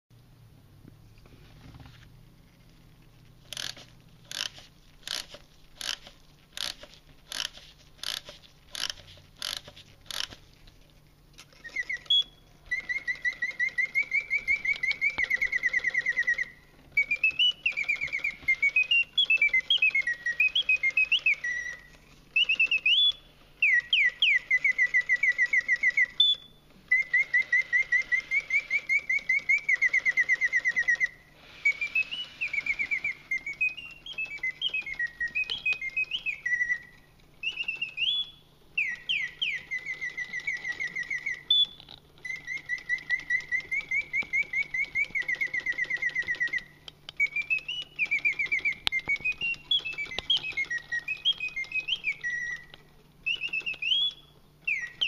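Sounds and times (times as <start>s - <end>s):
mechanical bird whistling: 3.4s - 10.4s, 11.4s - 55.0s.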